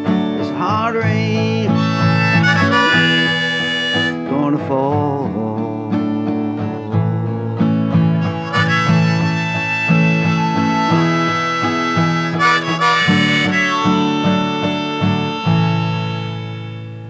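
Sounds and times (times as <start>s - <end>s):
harmonica long held notes: 0.0s - 4.9s, 5.6s - 17.0s
strummed acoustic guitar: 0.0s - 17.0s.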